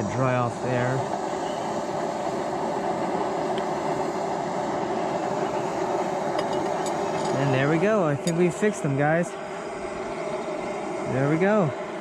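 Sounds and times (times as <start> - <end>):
gas forge burner rushing: 0.0 - 12.0.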